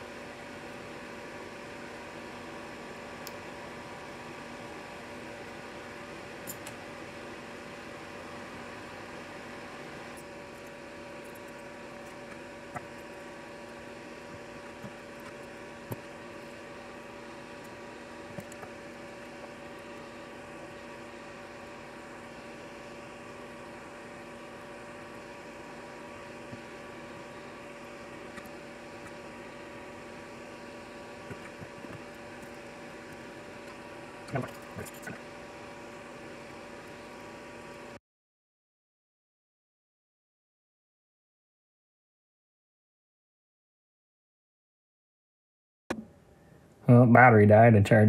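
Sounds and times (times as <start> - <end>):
steady hum and hiss: 0.0 - 38.0, 45.9 - 48.0.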